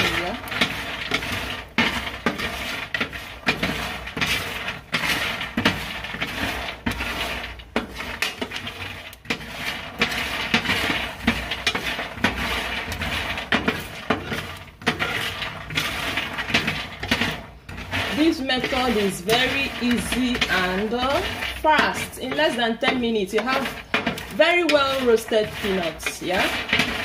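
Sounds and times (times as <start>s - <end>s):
nuts rattling on metal tray: 0.0s - 27.0s.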